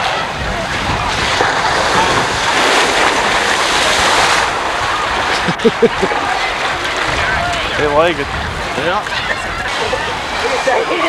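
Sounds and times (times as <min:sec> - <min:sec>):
water rushing down a slide: 0:00.0 - 0:11.0
wind rumbling on microphone: 0:00.0 - 0:11.0.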